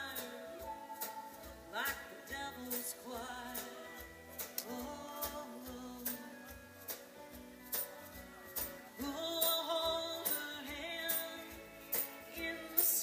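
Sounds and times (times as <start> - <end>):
live band playing country song: 0.0 - 13.0.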